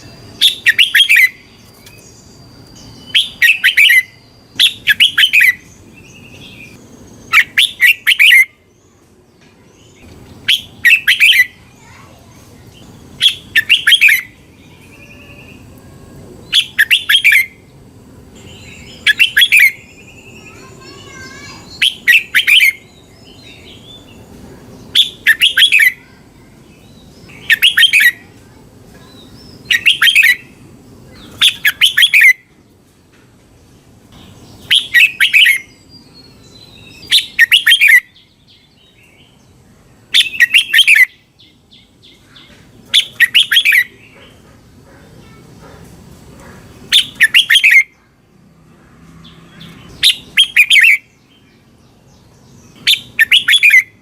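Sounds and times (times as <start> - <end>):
soft bird twittering: 0.0 - 32.6, 34.1 - 54.0
bird song phrase: 0.0 - 32.8, 33.6 - 54.0.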